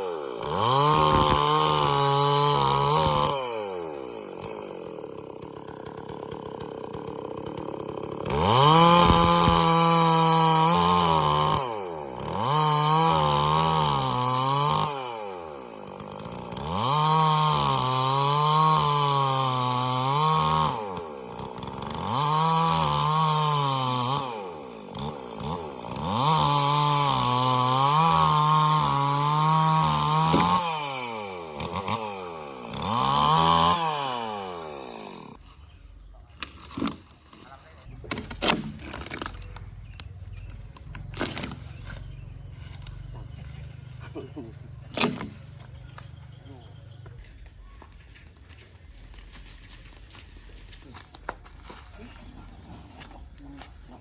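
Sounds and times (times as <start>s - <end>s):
chainsaw revving and cutting wood: 0.0s - 54.0s.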